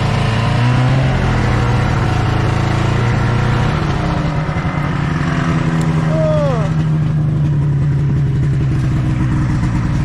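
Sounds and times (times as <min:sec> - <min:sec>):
snowmobile engine running: 0:00.0 - 0:10.0.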